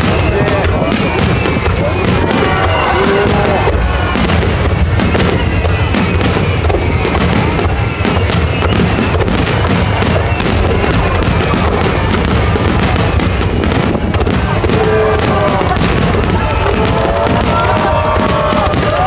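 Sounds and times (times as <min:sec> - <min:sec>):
fireworks bursts and crackles: 0:00.0 - 0:19.0.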